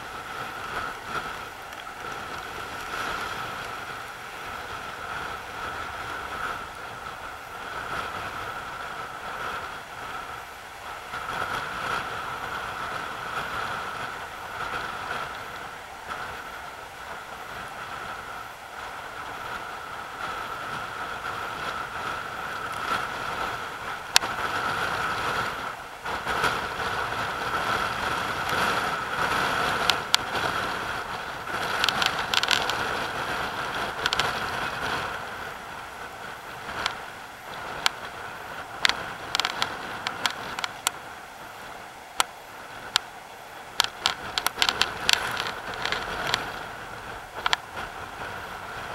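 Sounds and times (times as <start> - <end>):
surf breaking around rocks: 0.0 - 48.9.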